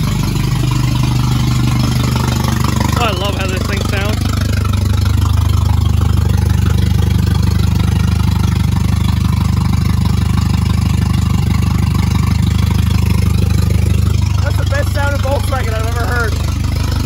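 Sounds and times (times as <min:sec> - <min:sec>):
car engine idling loud: 0:00.0 - 0:17.0.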